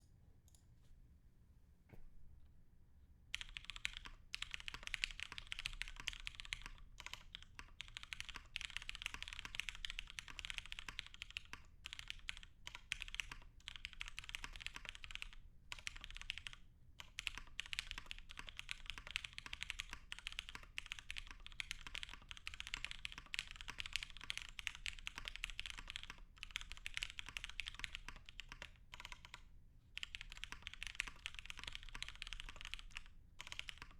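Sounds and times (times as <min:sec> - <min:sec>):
typing on mechanical keyboard: 0:03.3 - 0:33.9.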